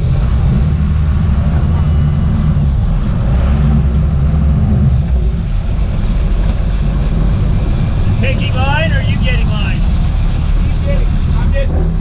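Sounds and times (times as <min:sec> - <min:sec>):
boat engine drone: 0:00.0 - 0:12.0
rush of water: 0:00.0 - 0:12.0.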